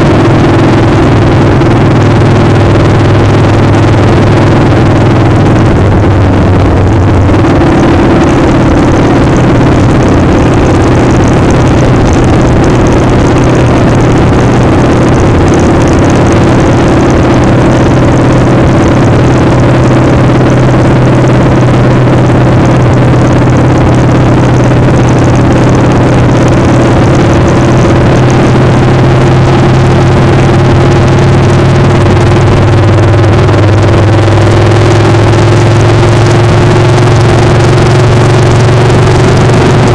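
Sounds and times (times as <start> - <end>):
motorcycle engine running: 0.0 - 39.9
wind noise rushing: 0.0 - 39.9.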